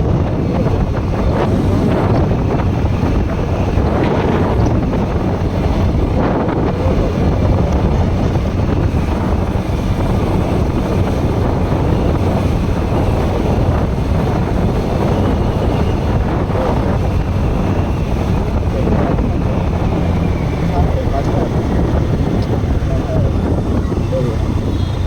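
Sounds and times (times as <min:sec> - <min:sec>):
motorcycle engine running: 0:00.0 - 0:25.0
wind rushing over microphone: 0:00.0 - 0:25.0.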